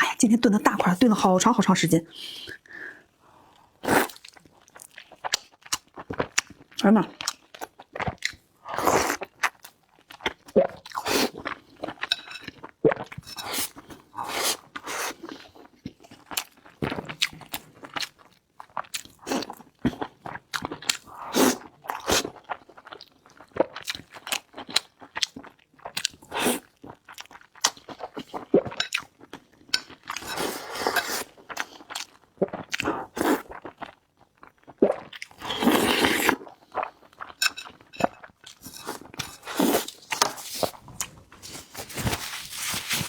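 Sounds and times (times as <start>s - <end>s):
person chewing food: 3.5s - 43.0s.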